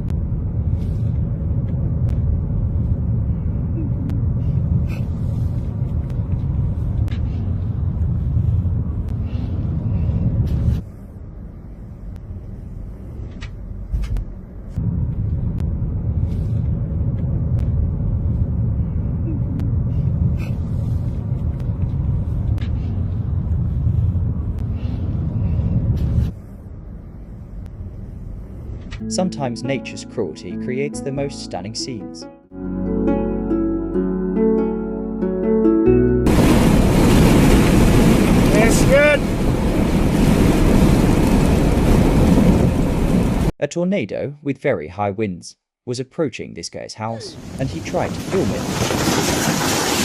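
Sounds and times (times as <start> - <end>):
car engine and road noise: 0.0 - 31.7, 32.6 - 43.6, 47.3 - 50.0
deep steady rumble: 0.0 - 43.6.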